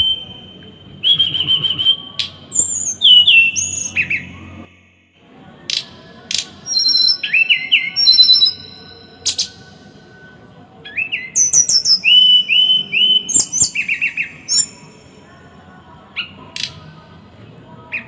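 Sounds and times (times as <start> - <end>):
small songbird singing: 0.0 - 4.8, 5.6 - 17.0.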